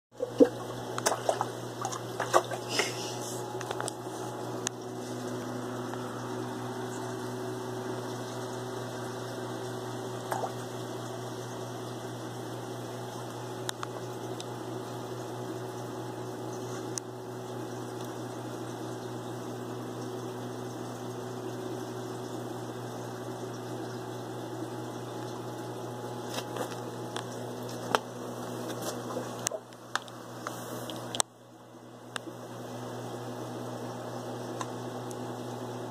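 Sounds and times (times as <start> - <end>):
aquarium pump hum and water: 0.2 - 35.9.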